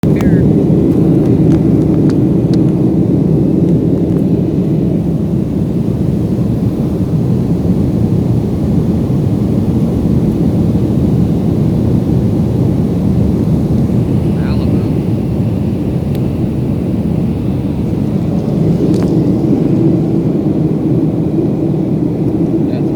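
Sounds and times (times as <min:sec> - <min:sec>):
aircraft cabin drone: 0:00.0 - 0:22.9.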